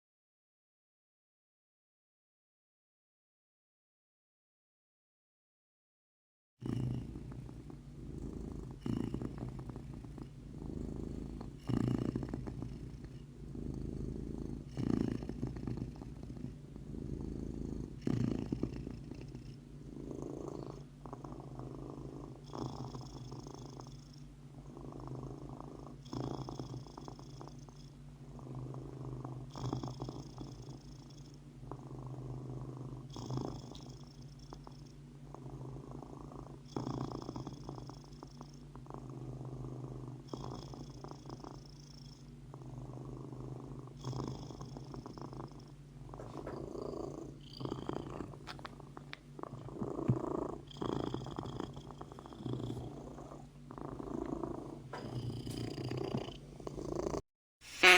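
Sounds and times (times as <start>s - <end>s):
cat purring: 6.6s - 57.9s.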